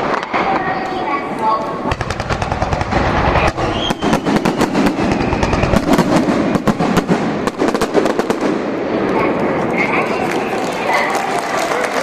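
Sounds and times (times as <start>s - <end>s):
continuous rumble: 0.0s - 12.0s
fireworks bangs and crackles: 0.0s - 12.0s.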